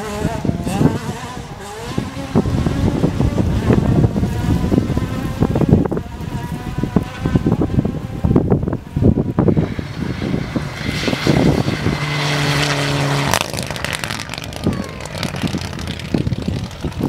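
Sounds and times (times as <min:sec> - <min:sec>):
race car engine revving: 0:00.0 - 0:17.0
wind noise: 0:00.0 - 0:17.0.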